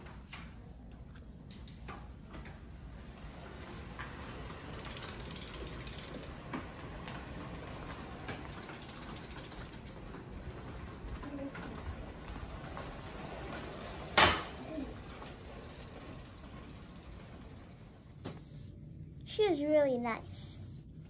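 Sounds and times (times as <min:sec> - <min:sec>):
trike wheels clattering on floor: 0:00.0 - 0:18.4.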